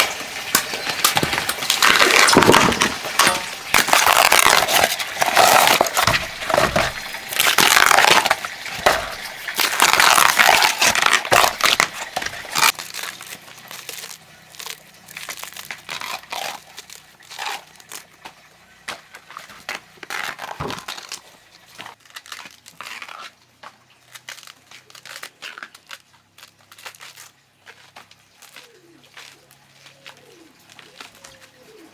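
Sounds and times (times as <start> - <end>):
dry plant material crackling: 0.0 - 31.9.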